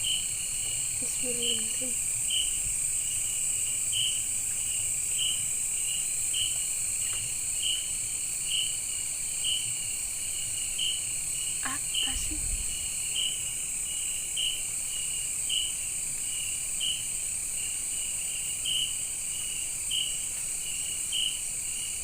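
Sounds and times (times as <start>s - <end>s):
insect chirping: 0.0s - 22.0s
insects droning: 0.0s - 22.0s.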